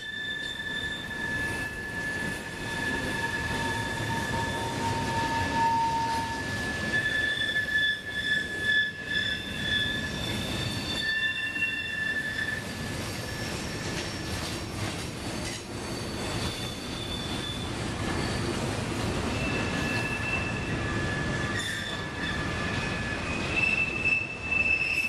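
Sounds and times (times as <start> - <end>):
train wheels squealing: 0.0 - 25.0.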